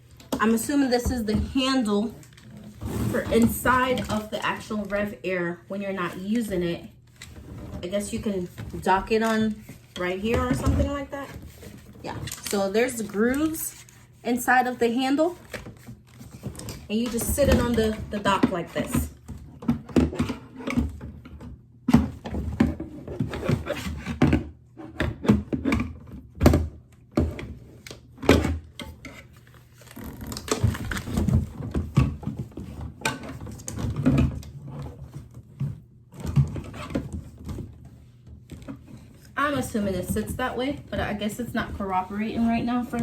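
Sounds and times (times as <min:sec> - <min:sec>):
hard plastic knocking and scraping: 0:00.1 - 0:05.2, 0:05.8 - 0:43.0.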